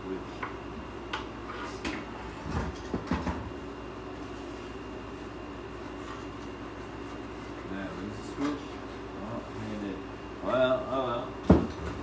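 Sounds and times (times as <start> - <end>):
low hum with high whine: 0.0 - 12.0.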